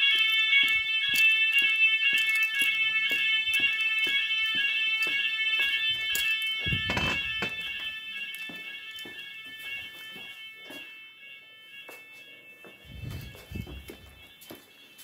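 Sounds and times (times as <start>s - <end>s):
pulsing multi-tone fire alarm: 0.0s - 15.0s.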